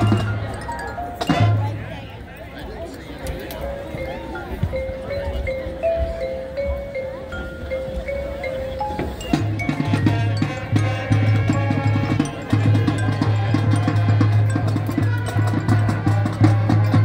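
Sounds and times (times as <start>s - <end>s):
rapid percussion strokes: 0.0s - 2.2s, 3.3s - 17.0s
mallet percussion notes: 0.0s - 17.0s.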